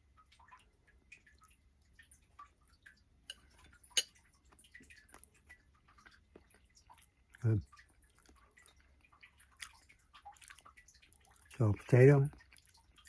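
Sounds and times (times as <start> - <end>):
wet chewing clicks: 0.3 - 13.0.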